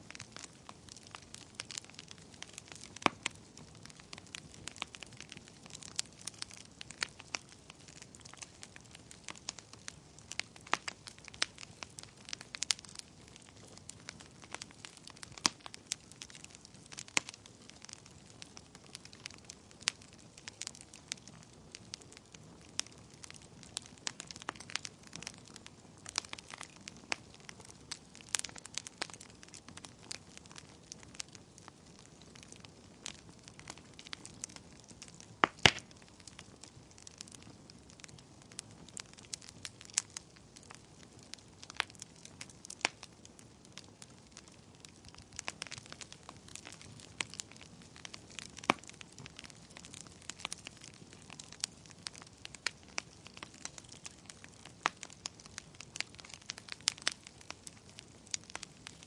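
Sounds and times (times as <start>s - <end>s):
faint steady hiss: 0.0s - 59.0s
wood fire crackling in fireplace: 0.0s - 59.0s.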